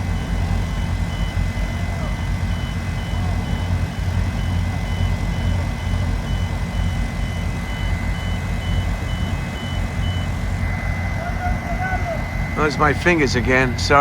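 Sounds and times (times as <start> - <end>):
backup alarm beeping: 0.0 - 14.0
diesel engine running: 0.0 - 14.0.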